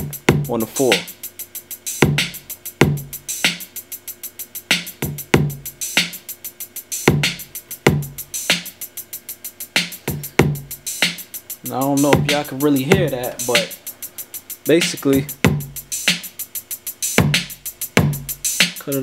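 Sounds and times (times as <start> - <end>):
closed hi-hats: 0.0 - 19.0
hip-hop drum loop: 0.0 - 19.0
open hi-hats: 0.0 - 19.0.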